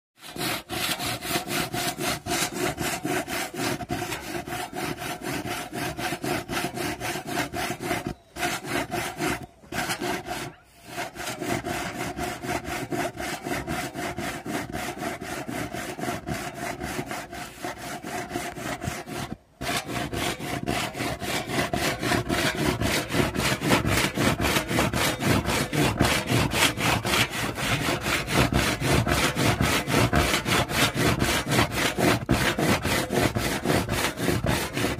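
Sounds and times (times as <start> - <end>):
handsaw cutting wood: 0.2 - 34.9.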